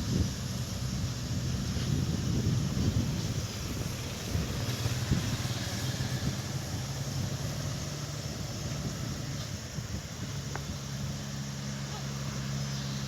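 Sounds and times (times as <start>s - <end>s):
road noise hiss: 0.0s - 13.0s
vehicle engine hum: 0.0s - 13.0s.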